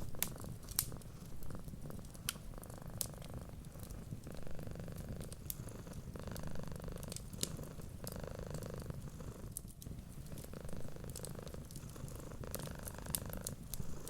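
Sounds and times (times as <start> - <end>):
cat purring: 0.0 - 14.0
wood fire crackling: 0.0 - 14.0.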